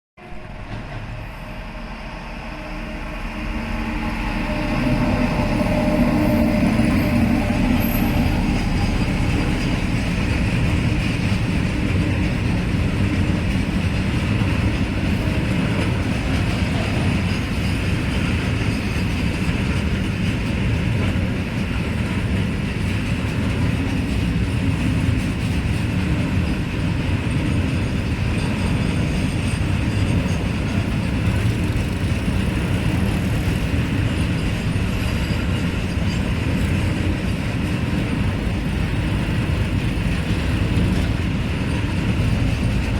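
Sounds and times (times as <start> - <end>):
freight train wheels rumbling: 0.2 - 42.9.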